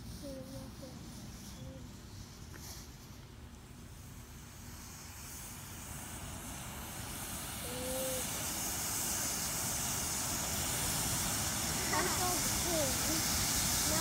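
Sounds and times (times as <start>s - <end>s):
smoke bomb hissing: 0.0s - 14.0s.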